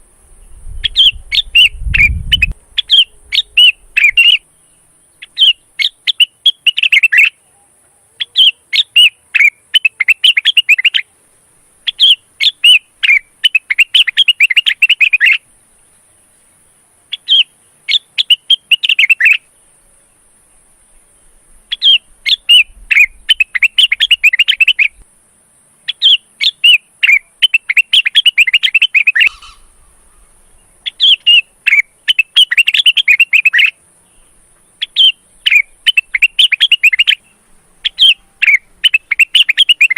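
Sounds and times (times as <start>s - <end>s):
bird singing rapid chirping phrases: 0.4s - 7.4s, 8.3s - 11.1s, 11.8s - 15.4s, 16.6s - 19.6s, 20.5s - 25.0s, 25.6s - 39.9s.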